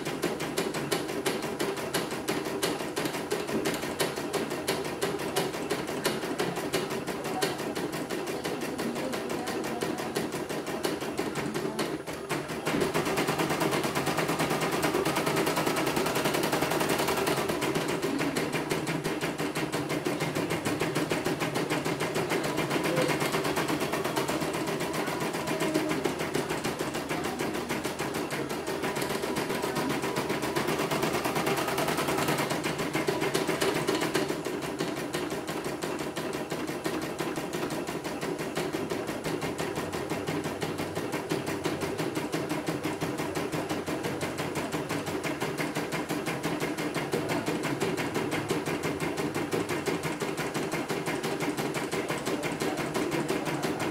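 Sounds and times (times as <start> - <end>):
embroidery machine needle clatter: 0.0 - 53.9.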